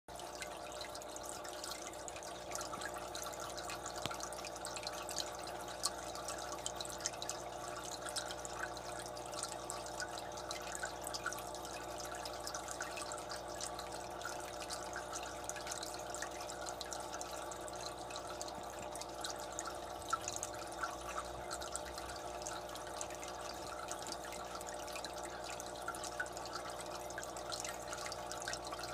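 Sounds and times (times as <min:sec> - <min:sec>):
water trickling and dripping: 0:00.1 - 0:28.9.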